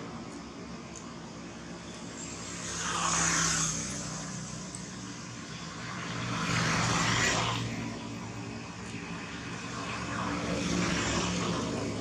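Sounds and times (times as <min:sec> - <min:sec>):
vehicles going past: 0:00.0 - 0:12.0.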